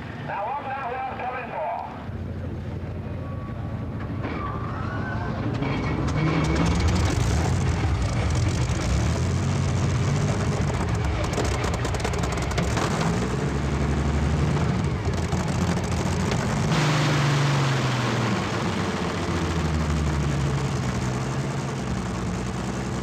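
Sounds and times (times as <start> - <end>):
tractor engine running hard: 0.0 - 23.0.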